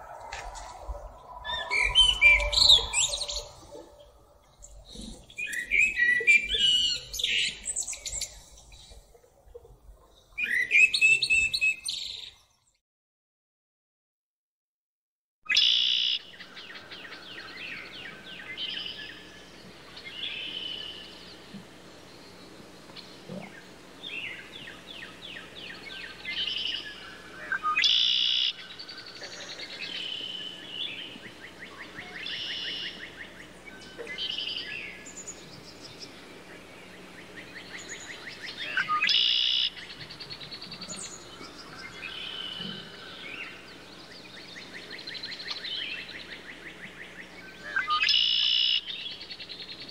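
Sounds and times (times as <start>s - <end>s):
sharp bird calls: 0.0s - 9.0s, 15.5s - 49.9s
blackbird singing: 0.0s - 12.7s, 15.5s - 49.9s.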